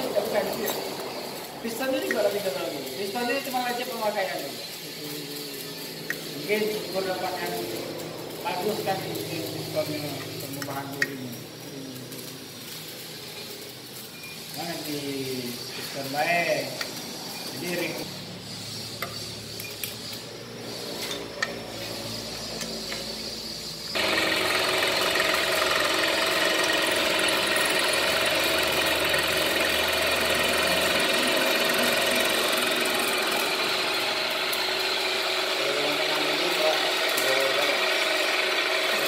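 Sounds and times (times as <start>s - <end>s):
power tool whining: 0.0s - 39.0s.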